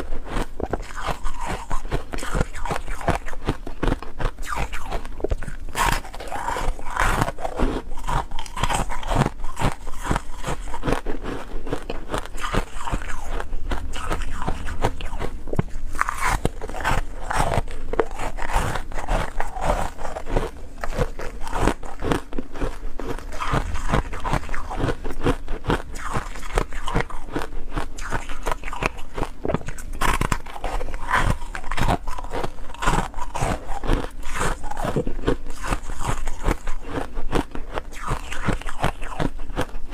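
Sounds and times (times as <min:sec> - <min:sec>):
ice being crunched and chewed: 0:00.0 - 0:39.9.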